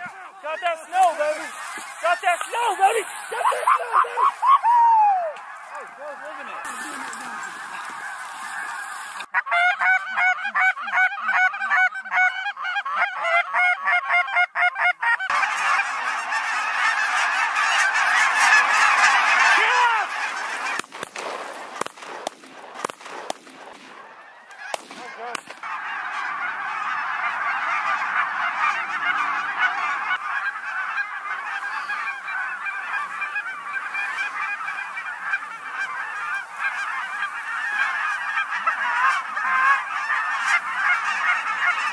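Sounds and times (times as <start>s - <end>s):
geese honking in flight: 0.0s - 41.9s.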